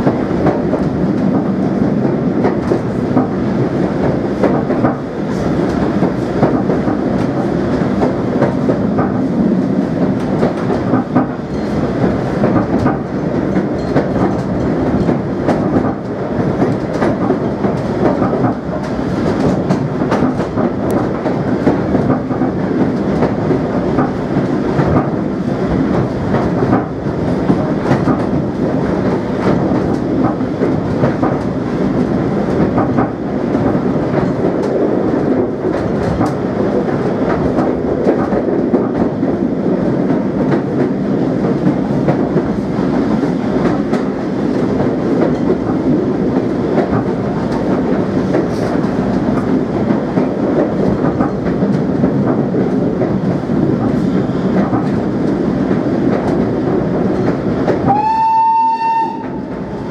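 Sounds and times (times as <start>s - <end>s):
steam locomotive running: 0.0s - 59.9s.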